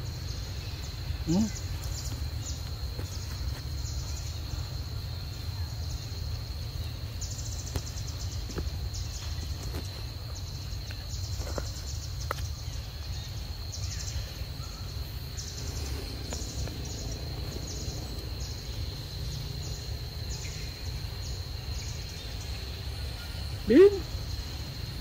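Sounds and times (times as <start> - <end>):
insect buzzes: 0.0 - 25.0
insects droning: 0.0 - 25.0.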